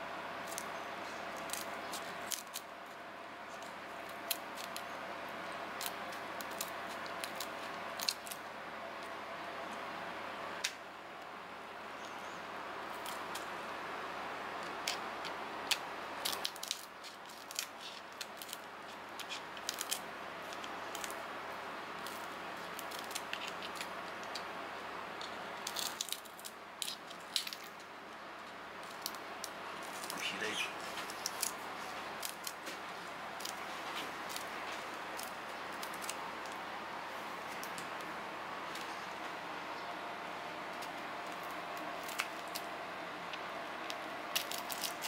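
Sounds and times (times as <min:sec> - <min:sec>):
steady background hum: 0:00.0 - 0:45.0.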